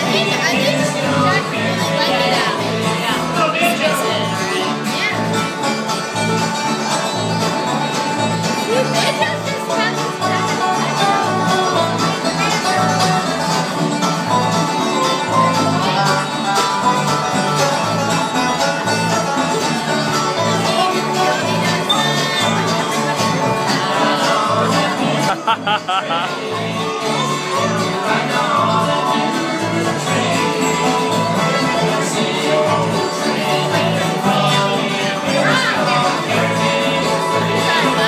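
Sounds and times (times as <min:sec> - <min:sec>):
acoustic guitar: 0:00.0 - 0:38.0
bass notes: 0:00.0 - 0:38.0
fiddles: 0:00.0 - 0:38.0.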